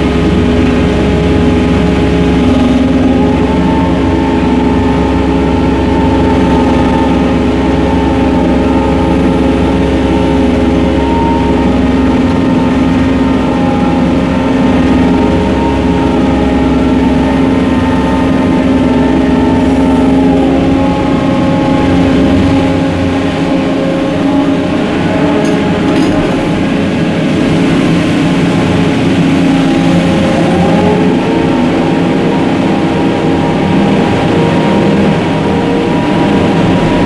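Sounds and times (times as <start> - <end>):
crane machinery hum: 0.0 - 37.0.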